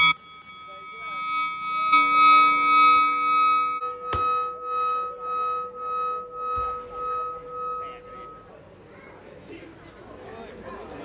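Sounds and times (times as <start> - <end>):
bell ringing with pulsing hum: 0.0 - 9.1.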